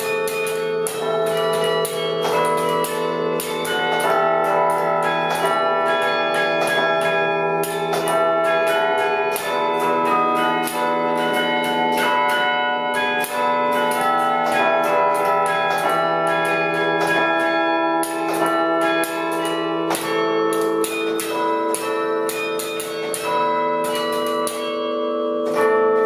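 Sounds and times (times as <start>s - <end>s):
bell-like ringing tones: 0.0s - 26.0s.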